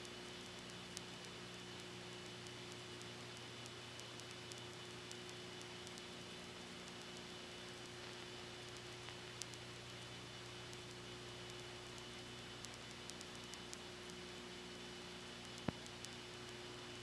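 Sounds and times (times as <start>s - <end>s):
faint clicks: 0.0s - 17.0s
mains hum: 0.0s - 17.0s
recording hiss: 0.0s - 17.0s.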